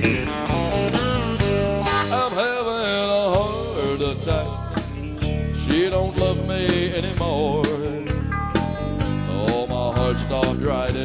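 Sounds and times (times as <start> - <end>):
country rock band music: 0.0 - 11.0
lead guitar bending notes: 0.0 - 11.0.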